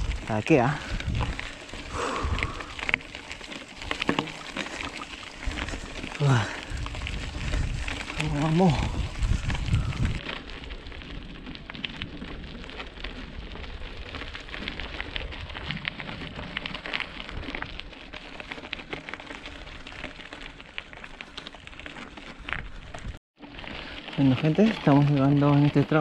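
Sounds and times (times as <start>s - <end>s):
bike tyres crackling on gravel: 0.0s - 26.0s.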